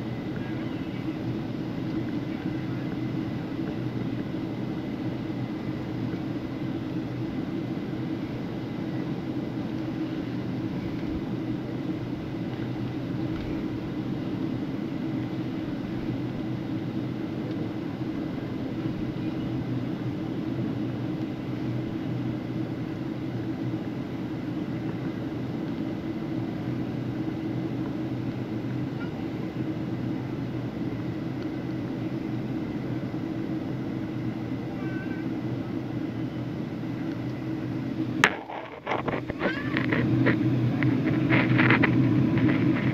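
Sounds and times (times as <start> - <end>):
vehicle interior drone: 0.0 - 42.9.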